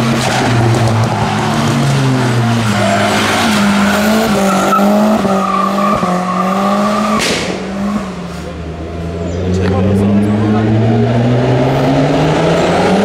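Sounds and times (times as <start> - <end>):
car engine revving high: 0.0 - 13.0.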